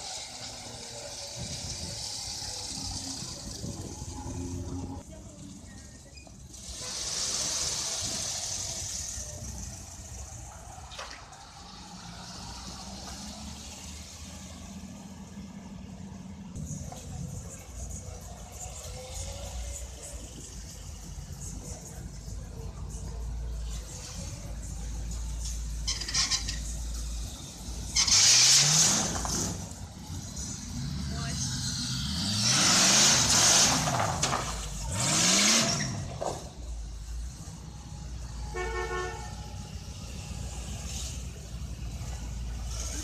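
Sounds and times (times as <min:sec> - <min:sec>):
cars rolling over cobblestones: 0:00.0 - 0:38.6, 0:39.3 - 0:43.0
car engines rumbling: 0:00.0 - 0:43.0
tyre and road noise hiss: 0:00.0 - 0:43.0.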